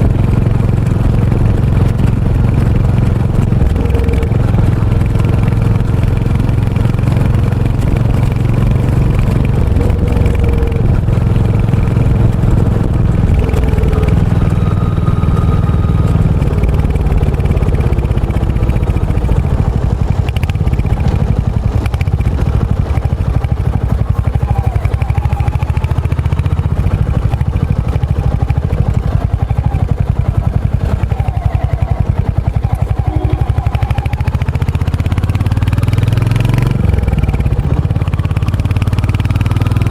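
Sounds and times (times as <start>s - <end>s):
exhaust beats: 0.0s - 39.9s
motorcycle engine running: 0.0s - 39.9s.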